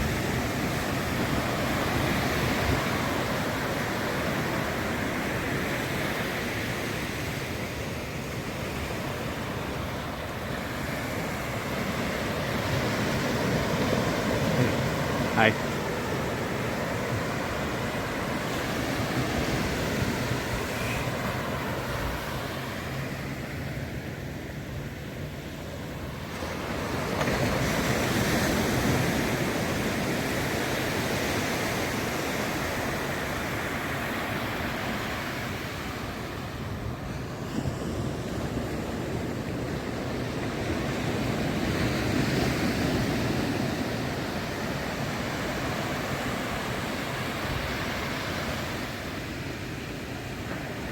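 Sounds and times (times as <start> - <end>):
ocean surf breaking: 0.0 - 50.9.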